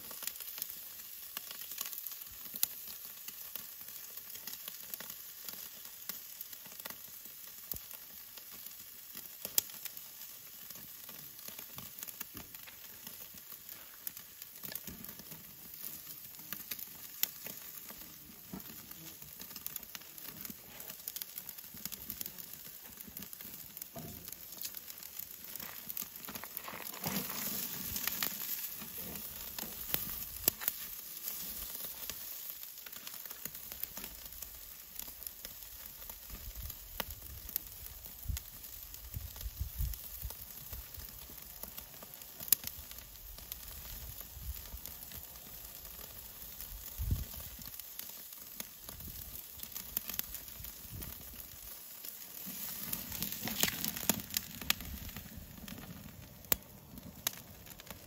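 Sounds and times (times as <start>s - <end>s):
food sizzling while frying: 0.0s - 56.6s.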